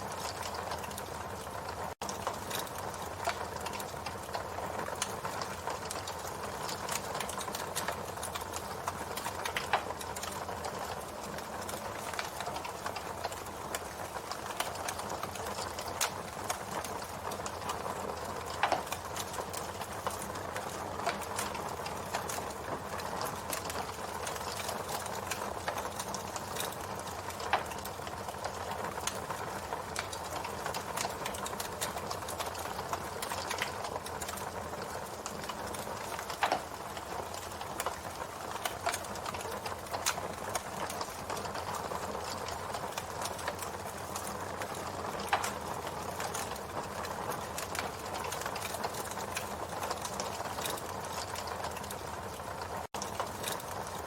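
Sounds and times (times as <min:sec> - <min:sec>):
fire crackling and popping: 0:00.0 - 0:54.0
campfire flames hissing: 0:00.1 - 0:54.0.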